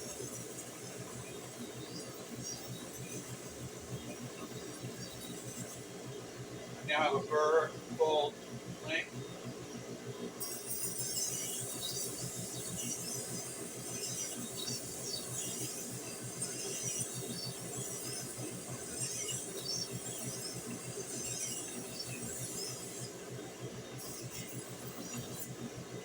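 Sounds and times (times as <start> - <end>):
sharpening stone motor hum: 0.0 - 6.3, 10.4 - 26.0.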